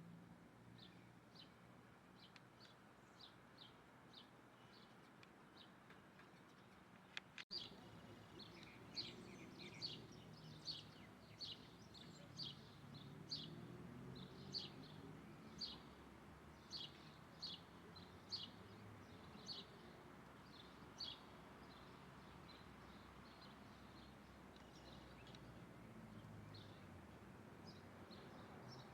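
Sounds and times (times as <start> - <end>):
bird chirping: 2.2 - 27.0.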